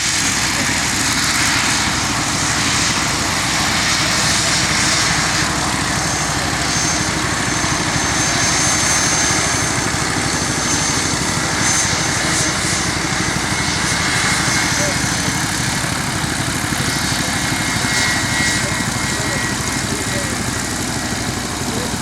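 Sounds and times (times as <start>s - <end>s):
aircraft engine running: 0.0s - 22.0s.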